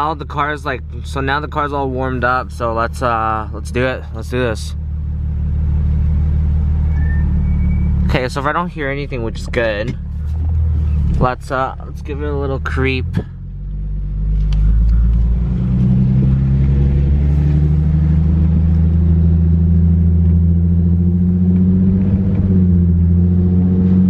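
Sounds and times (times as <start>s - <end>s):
car engine low drone: 0.0s - 24.0s.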